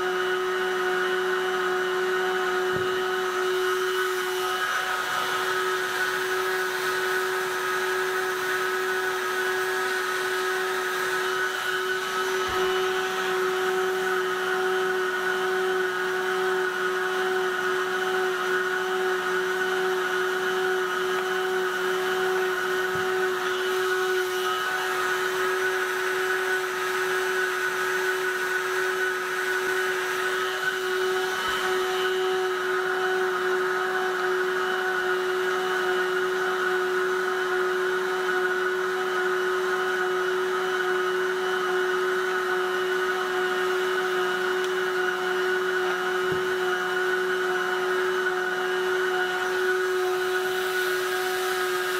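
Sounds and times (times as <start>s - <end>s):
heat gun fan whining: 0.0s - 51.9s.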